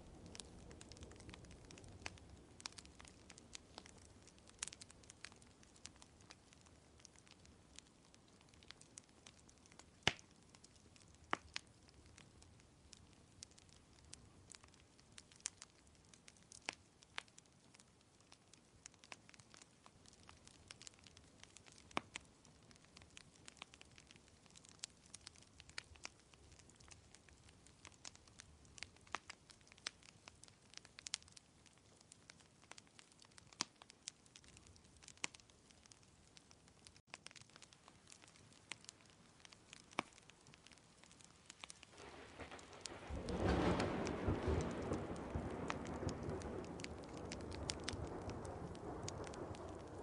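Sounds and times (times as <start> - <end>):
faint rain hiss: 0.0 - 50.0
wood fire crackling: 0.0 - 50.0.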